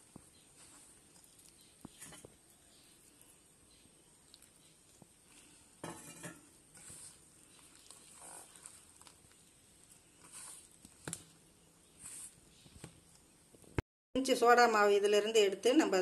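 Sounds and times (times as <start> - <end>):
hands mixing dough in metal basin: 0.0 - 13.7.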